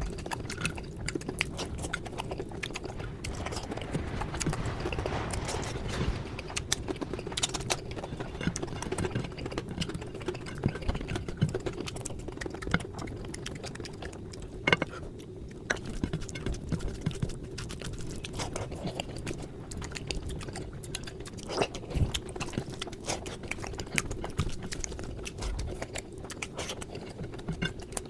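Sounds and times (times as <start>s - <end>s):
person chewing: 0.0s - 5.6s, 6.4s - 28.0s.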